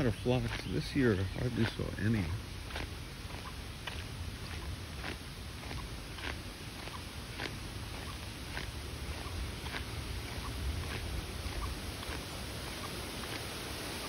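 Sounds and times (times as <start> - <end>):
low rumbling noise: 0.0 - 14.0
slow footsteps: 0.0 - 14.0.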